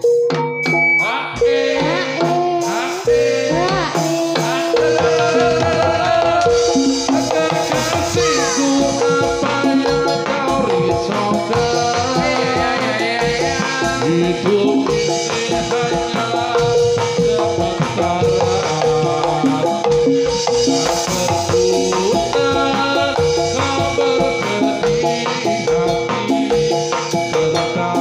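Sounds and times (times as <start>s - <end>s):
metallophones ringing: 0.0s - 28.0s
steady drum beat: 0.0s - 28.0s.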